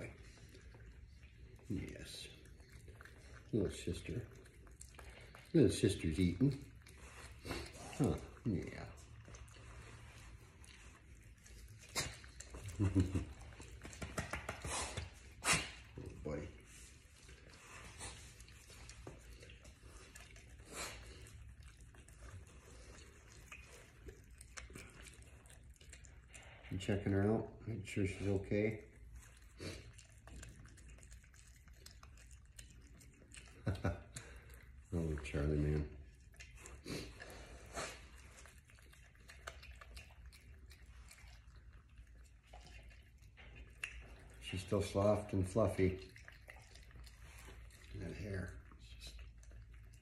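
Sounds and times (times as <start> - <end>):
animal chewing wetly: 0.0 - 50.0.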